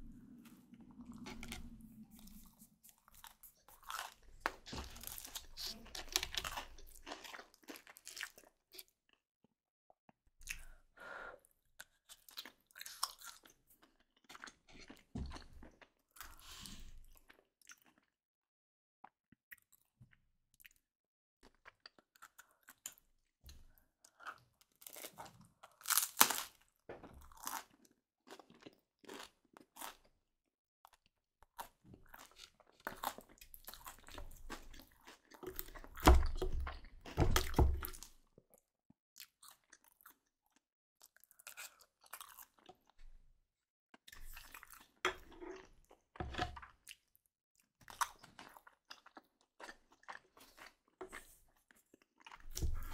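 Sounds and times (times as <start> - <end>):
person chewing and crunching food: 0.0 - 9.2, 10.4 - 18.2, 19.0 - 30.2, 30.8 - 43.1, 43.9 - 52.9.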